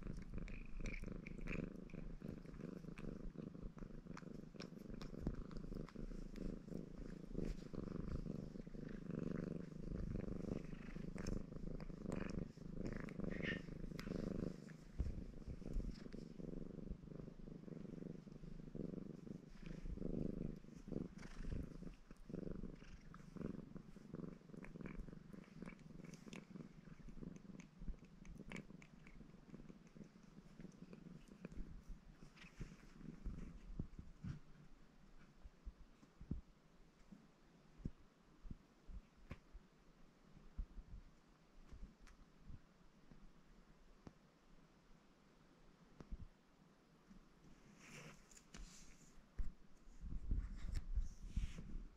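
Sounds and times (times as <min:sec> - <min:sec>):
cat licking and grooming: 0:00.0 - 0:38.0, 0:47.1 - 0:51.9
cat purring: 0:00.0 - 0:44.3, 0:47.0 - 0:51.9.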